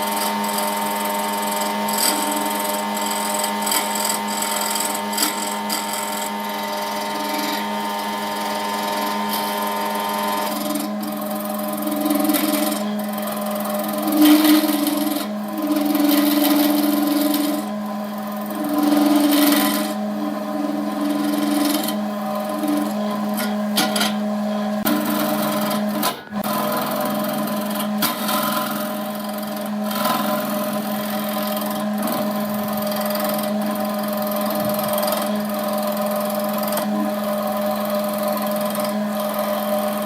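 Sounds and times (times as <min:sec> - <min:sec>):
turning tool cutting spinning wood: 0:00.0 - 0:40.0
wood lathe motor hum: 0:00.0 - 0:40.0.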